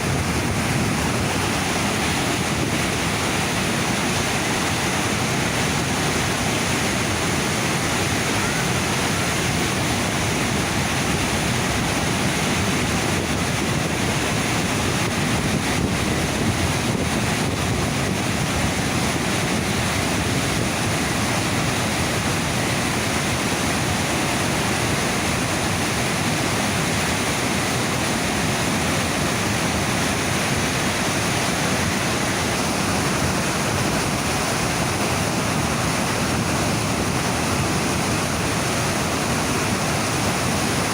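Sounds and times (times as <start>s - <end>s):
roar of churning rapids: 0.0s - 40.9s
wind noise on microphone: 0.0s - 40.9s.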